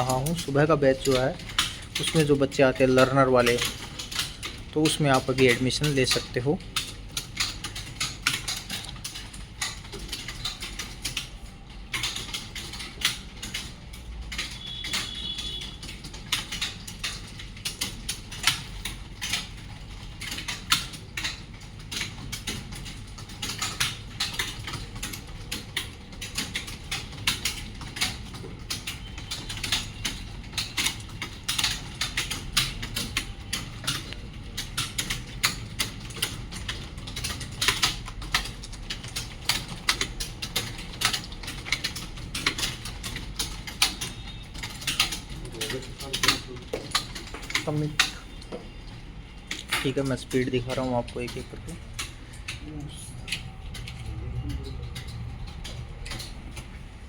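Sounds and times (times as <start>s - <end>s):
keyboards clattering: 0.0s - 57.0s.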